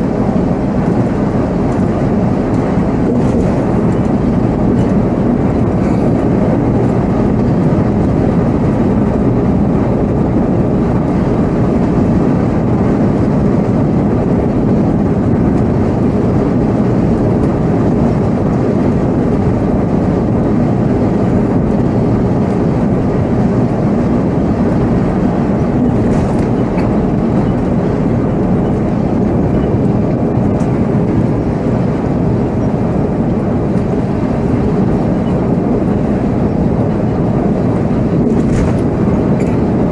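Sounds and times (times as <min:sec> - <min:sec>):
coach diesel engine rumbling: 0:00.0 - 0:39.9.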